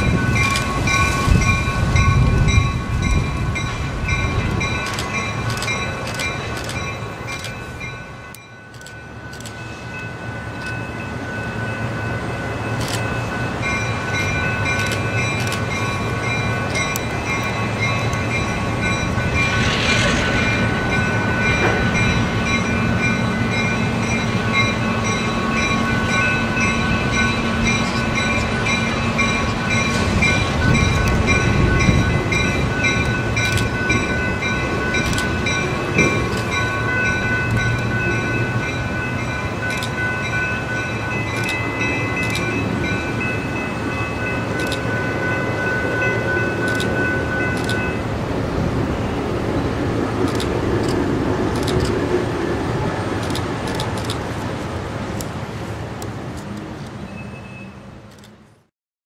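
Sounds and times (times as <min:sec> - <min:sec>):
locomotive bell ringing: 0:00.0 - 0:48.2
diesel locomotive engine drone: 0:00.0 - 0:58.7.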